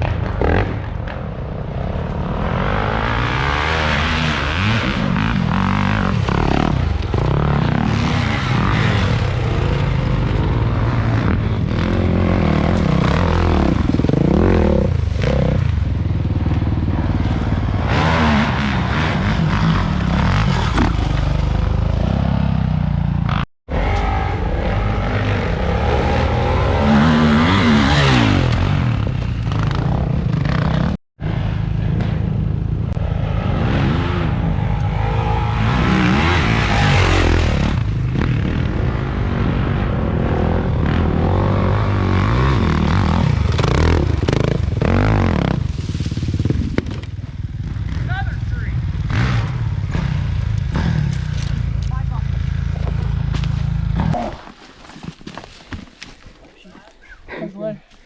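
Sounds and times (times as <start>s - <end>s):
dirt bike engine revving: 2.4s - 54.2s.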